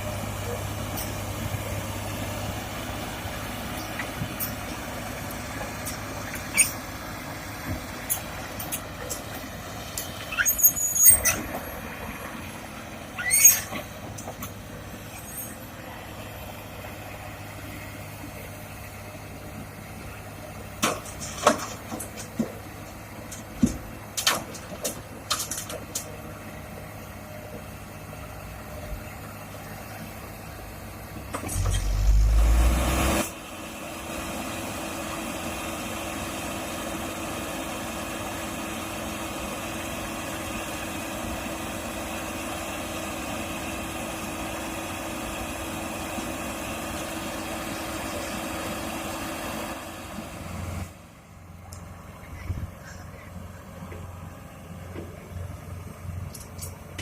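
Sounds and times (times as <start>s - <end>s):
diesel machinery running: 0.0s - 57.0s.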